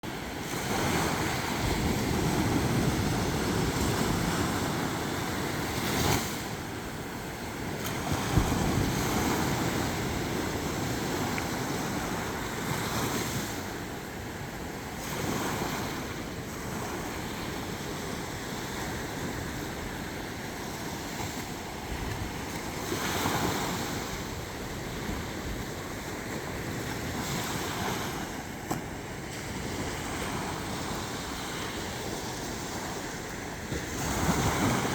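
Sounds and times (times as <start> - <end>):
sea waves washing ashore: 0.0 - 34.9
wind rumbling on microphone: 0.0 - 34.9.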